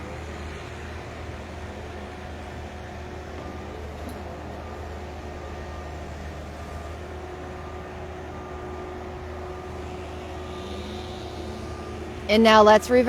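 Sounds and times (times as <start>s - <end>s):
distant construction machinery hum: 0.0s - 13.0s.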